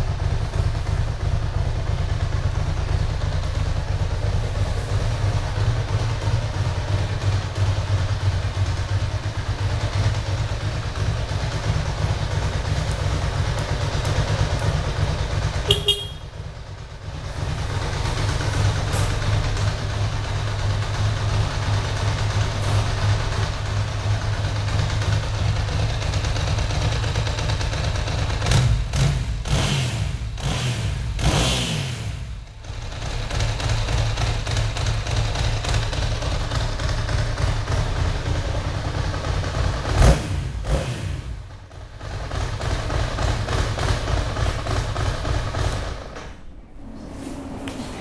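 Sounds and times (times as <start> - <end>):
motorcycle engine idling: 0.0 - 29.0, 32.4 - 40.0, 41.3 - 48.0.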